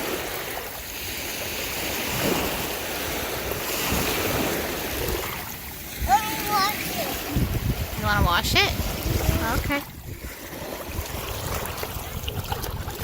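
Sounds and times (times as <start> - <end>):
surf washing on beach: 0.0 - 13.0
wind buffeting microphone: 1.2 - 13.0.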